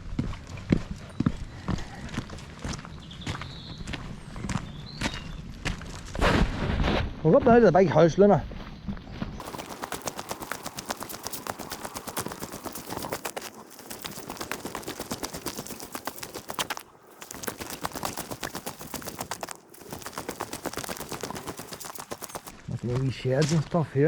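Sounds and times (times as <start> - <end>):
footsteps crunching on rough path: 0.0 - 6.3, 8.5 - 23.9.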